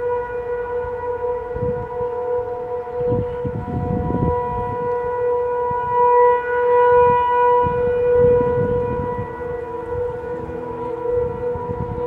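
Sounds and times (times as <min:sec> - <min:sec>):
warning siren wailing: 0:00.0 - 0:12.0.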